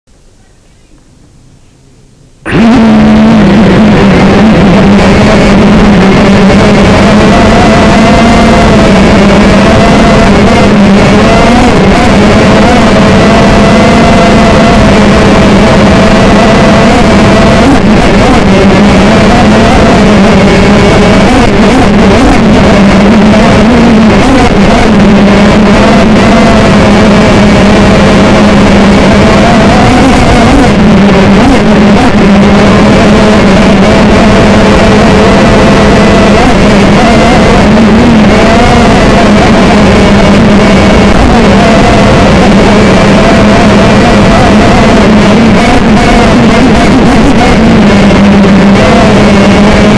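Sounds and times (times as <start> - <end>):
drone propellers humming: 2.4 - 49.9.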